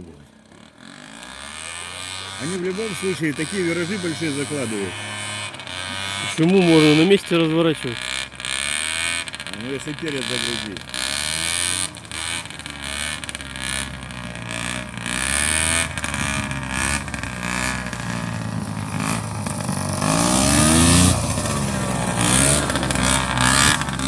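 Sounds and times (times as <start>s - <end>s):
airboat engine and propeller revving: 0.0s - 24.0s.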